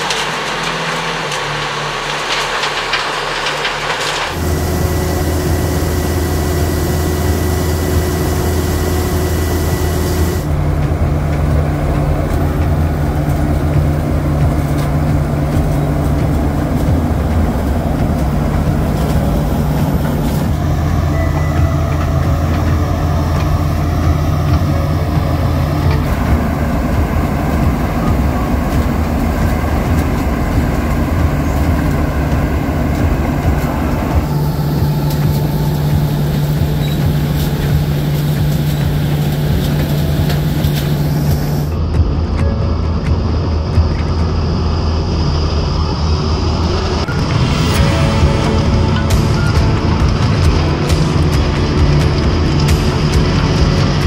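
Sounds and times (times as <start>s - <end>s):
harvester machinery noise: 0.0s - 54.0s
tractor engine hum: 0.0s - 54.0s.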